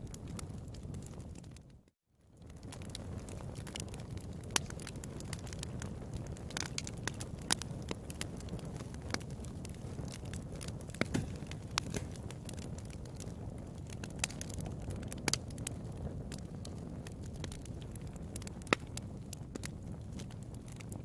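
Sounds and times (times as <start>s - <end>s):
low rush of flames: 0.0s - 21.0s
wood fire crackling and popping: 0.0s - 21.0s.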